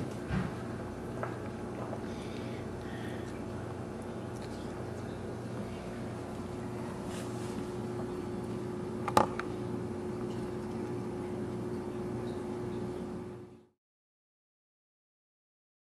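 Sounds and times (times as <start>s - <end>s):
low hum with held tone: 0.0s - 13.8s.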